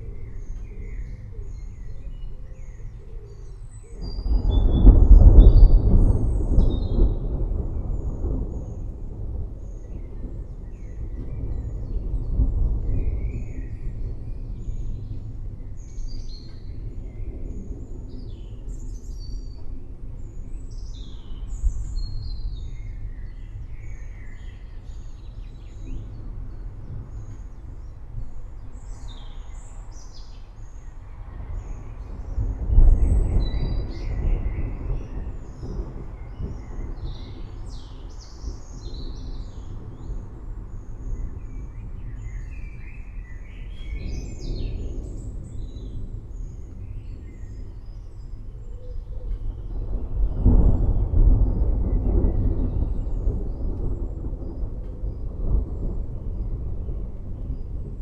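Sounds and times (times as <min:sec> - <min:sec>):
forest birds chirping: 0:00.0 - 0:58.0
distant thunder rumbling: 0:03.5 - 0:58.0.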